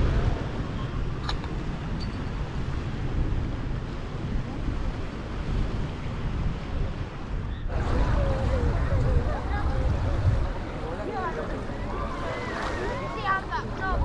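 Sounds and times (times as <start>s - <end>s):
surf washing on beach: 0.0s - 14.0s
wind buffeting microphone: 0.0s - 14.0s.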